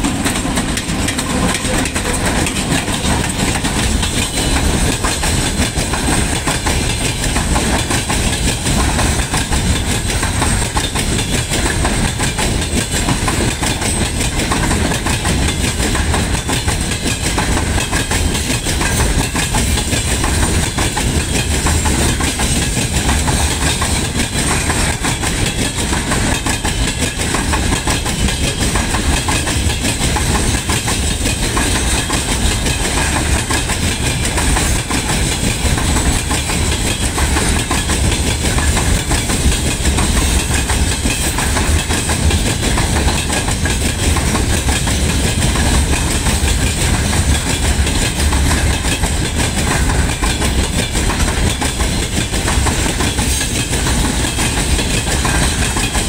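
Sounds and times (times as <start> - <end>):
steel wheels rumbling on rail: 0.0 - 56.0
wheels clicking over rail joints: 0.0 - 56.0.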